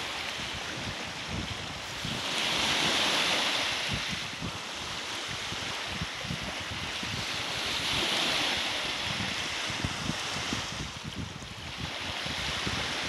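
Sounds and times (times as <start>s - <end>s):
waves washing up a sandy shore: 0.0s - 13.0s
wind buffeting microphone: 0.0s - 13.0s.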